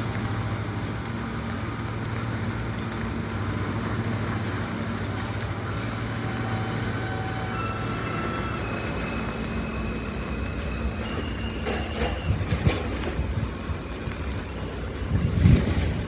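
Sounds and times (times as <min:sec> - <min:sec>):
subway train propulsion whine: 0:00.0 - 0:16.0
wheels knocking over rail joints: 0:00.0 - 0:16.0.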